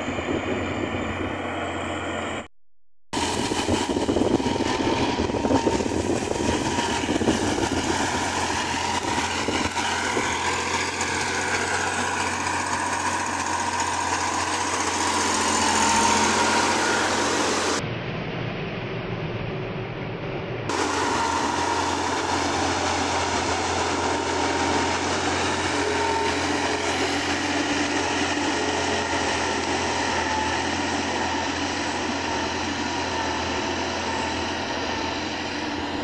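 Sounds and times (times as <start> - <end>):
tractor engine running under load: 0.0 - 2.5, 3.2 - 17.9, 20.7 - 36.0.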